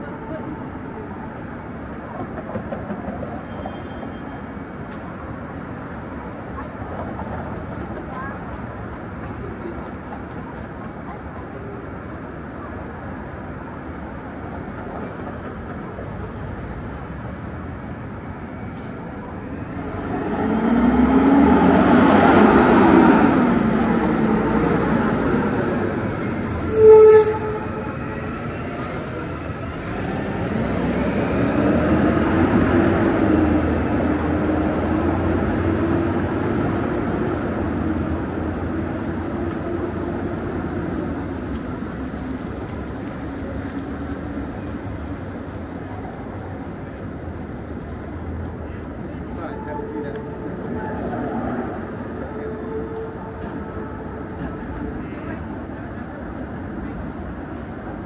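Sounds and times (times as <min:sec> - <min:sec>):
vehicles passing: 0:04.5 - 0:58.0.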